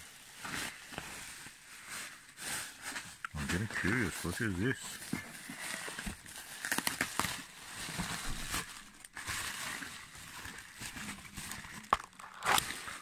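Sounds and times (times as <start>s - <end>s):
bubble wrap crackles: 0.0s - 13.0s
bubble wrap rustling: 0.0s - 13.0s.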